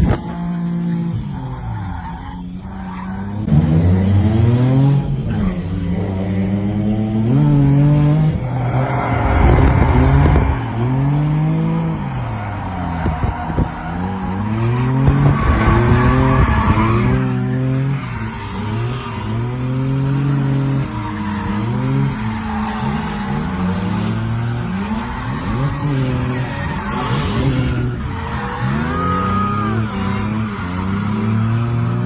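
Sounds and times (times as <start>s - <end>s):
car engine revving: 0.0s - 32.0s
tyres skidding: 5.0s - 32.0s.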